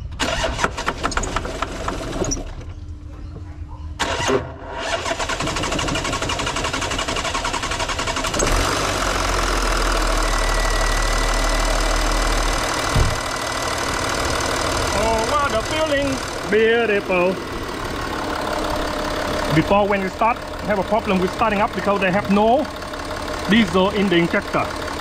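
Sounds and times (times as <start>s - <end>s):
diesel engine cranking and starting: 0.0s - 2.8s, 4.0s - 25.0s.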